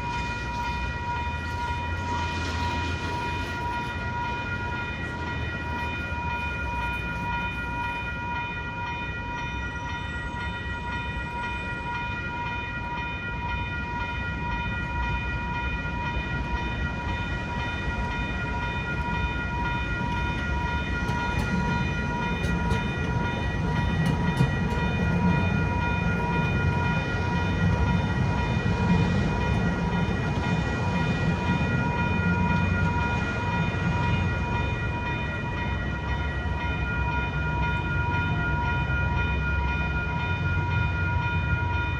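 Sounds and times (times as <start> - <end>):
crossing warning bell ringing: 0.0 - 41.9
tram rumble: 0.0 - 41.9.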